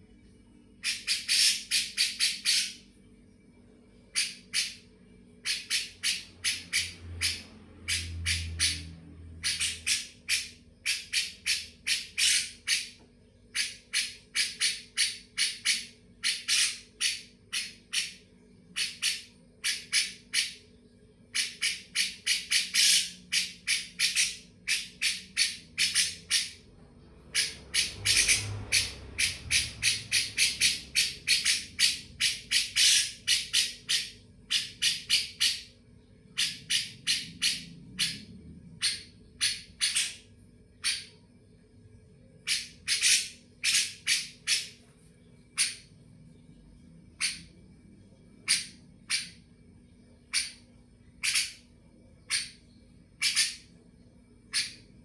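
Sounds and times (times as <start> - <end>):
harsh bird calls: 0.8 - 2.9, 3.9 - 41.3, 42.2 - 47.6, 48.3 - 55.0.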